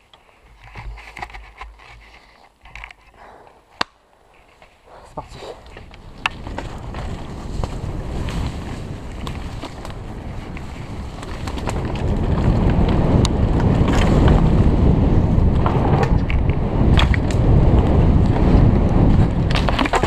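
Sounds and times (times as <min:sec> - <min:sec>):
bike rattling: 0:00.0 - 0:20.0
wind rushing over camera: 0:00.0 - 0:20.0.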